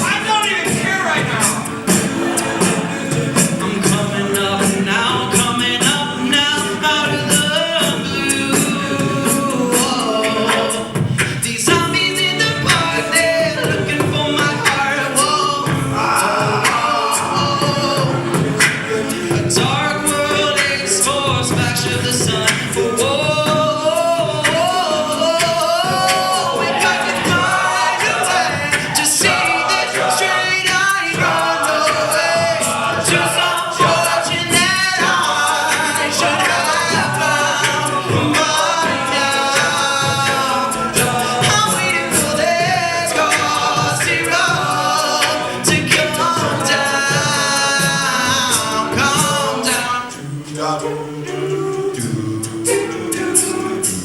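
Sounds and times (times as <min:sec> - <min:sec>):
a cappella group singing in harmony: 0:00.0 - 0:54.0.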